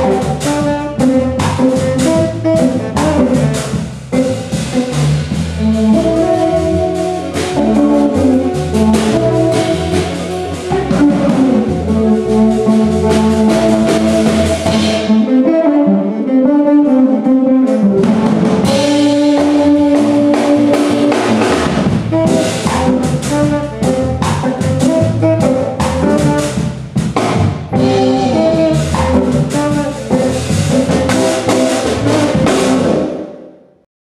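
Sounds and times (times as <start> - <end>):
drums and cymbals: 0.0 - 15.5, 17.7 - 33.4
tenor saxophone: 0.0 - 27.0, 27.6 - 33.5
guitar: 0.0 - 33.8.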